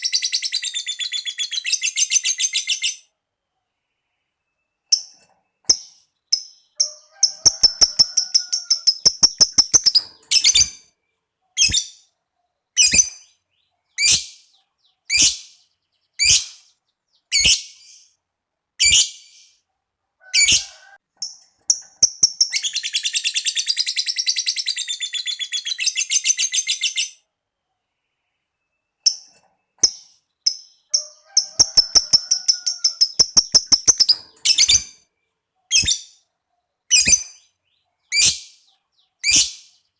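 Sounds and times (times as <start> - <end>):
lovebird chirping and trilling: 0.0 - 3.1, 4.8 - 10.9, 11.5 - 18.2, 18.8 - 19.6, 20.3 - 27.3, 29.0 - 35.1, 35.7 - 36.2, 36.9 - 39.9.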